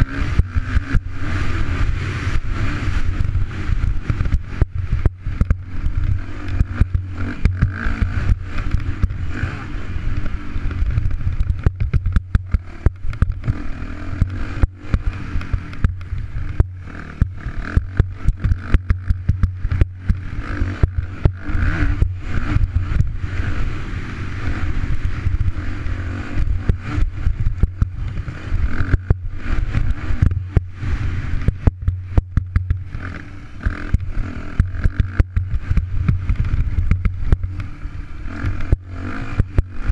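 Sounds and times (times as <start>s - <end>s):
sharp knocks and clatter: 3.1s - 9.5s, 10.2s - 23.4s, 24.8s - 39.9s.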